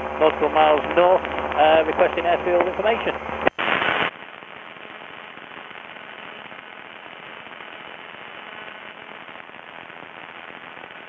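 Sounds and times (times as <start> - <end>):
crackling radio static: 0.0 - 11.0.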